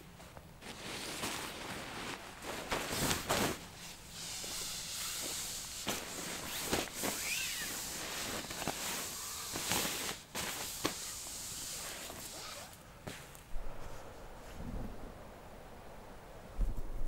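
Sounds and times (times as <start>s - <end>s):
fabric rustling and swishing: 0.0s - 15.0s.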